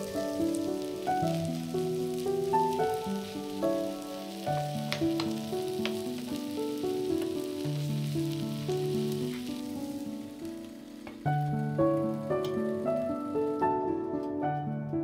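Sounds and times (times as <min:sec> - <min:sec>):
food sizzling in a pan: 0:00.0 - 0:14.2
background music: 0:00.0 - 0:15.0.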